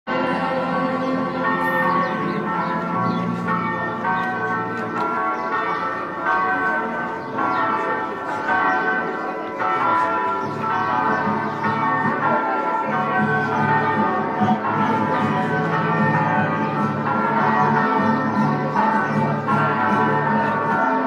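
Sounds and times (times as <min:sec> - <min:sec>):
church bells ringing: 0:00.1 - 0:21.0.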